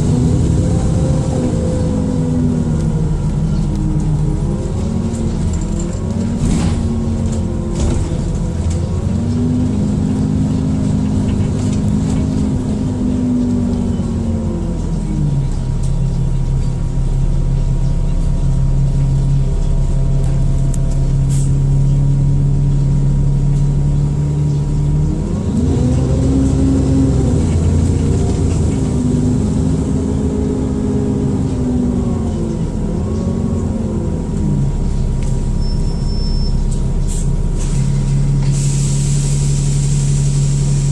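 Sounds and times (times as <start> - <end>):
bus diesel engine: 0.0 - 40.9.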